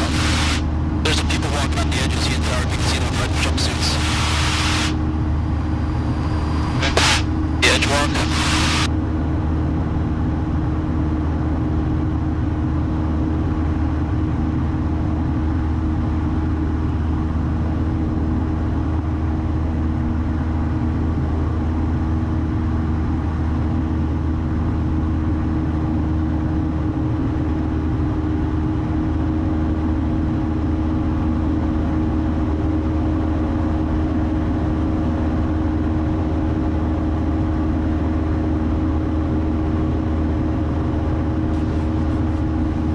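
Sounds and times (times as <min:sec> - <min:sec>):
airplane engine drone in cabin: 0:00.0 - 0:42.9.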